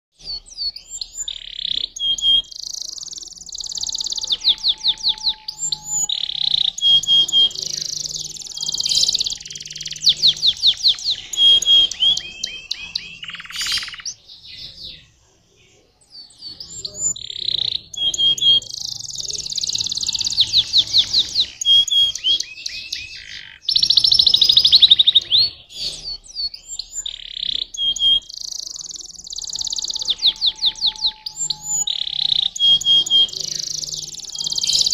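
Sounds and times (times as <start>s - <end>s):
canary singing: 0.1s - 34.9s.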